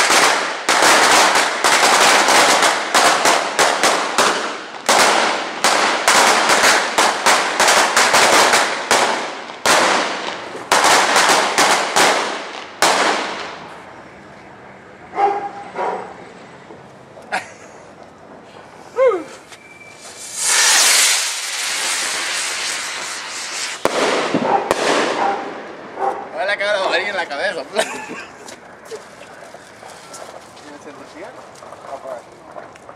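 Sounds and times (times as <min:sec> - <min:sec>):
firecrackers banging: 0:00.0 - 0:14.0, 0:19.6 - 0:32.9.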